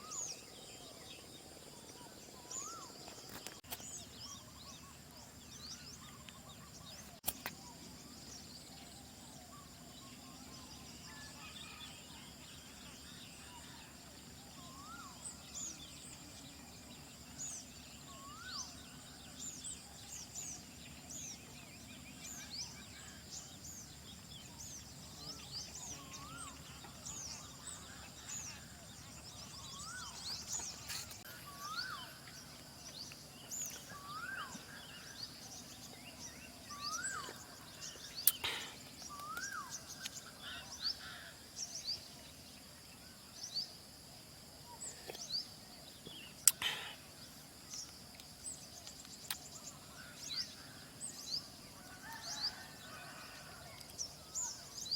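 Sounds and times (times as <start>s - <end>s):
birds chirping: 0.0s - 54.9s
high insect hum: 0.0s - 54.9s.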